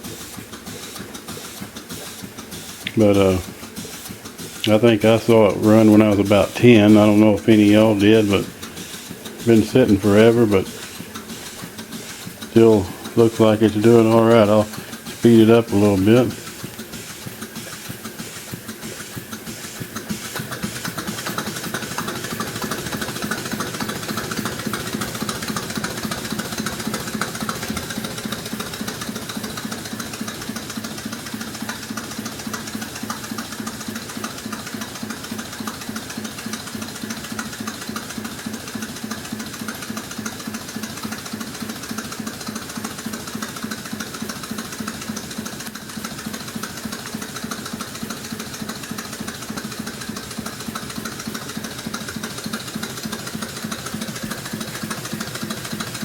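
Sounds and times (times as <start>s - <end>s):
steam engine running: 0.0s - 56.0s.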